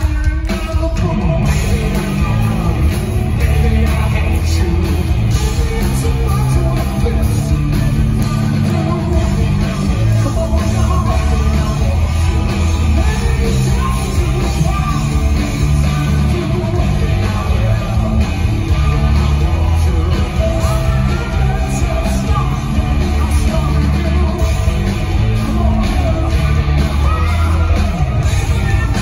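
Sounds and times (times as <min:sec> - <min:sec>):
bass guitar: 0:00.0 - 0:29.0
drum kit: 0:00.0 - 0:29.0
electric guitar: 0:00.0 - 0:29.0.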